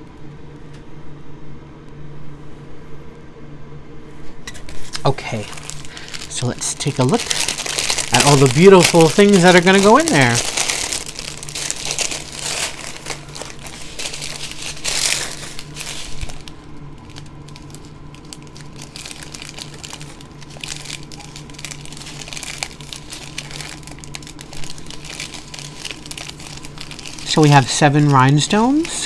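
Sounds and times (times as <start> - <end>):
plastic bags crinkling: 4.5 - 29.0.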